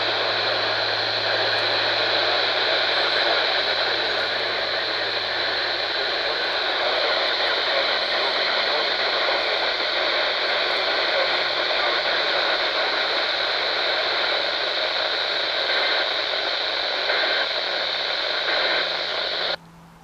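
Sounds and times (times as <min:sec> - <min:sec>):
radio static hiss: 0:00.0 - 0:19.6.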